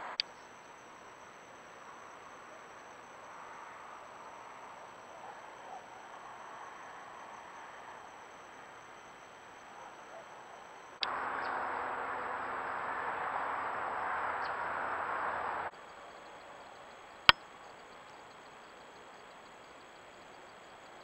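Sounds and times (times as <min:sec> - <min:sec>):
insects chirping at night: 0:00.0 - 0:21.0.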